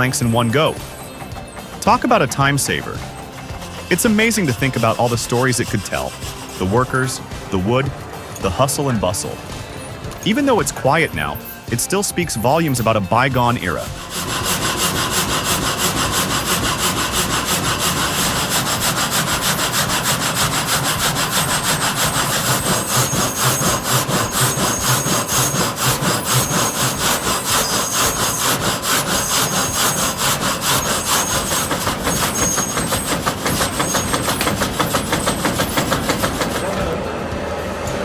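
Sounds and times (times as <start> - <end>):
saw cutting wood: 0.0 - 37.1.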